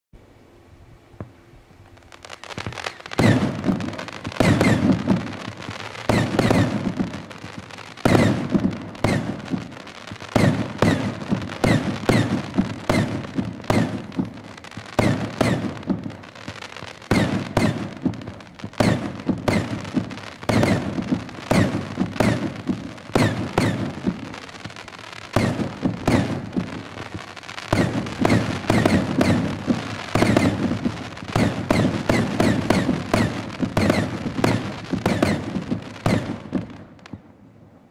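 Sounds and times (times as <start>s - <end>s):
firework crackling: 1.2s - 37.9s
firework bangs: 1.9s - 37.4s.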